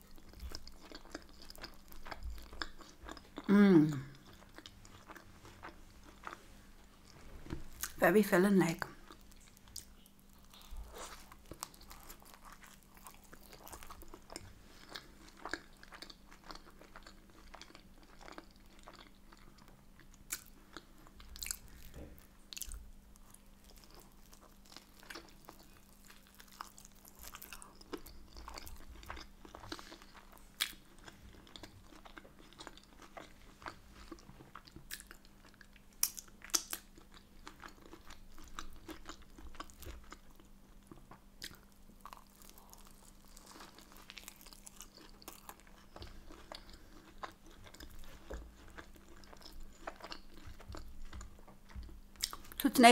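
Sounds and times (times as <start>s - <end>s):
chewing and biting food: 0.0s - 8.0s, 8.9s - 52.6s.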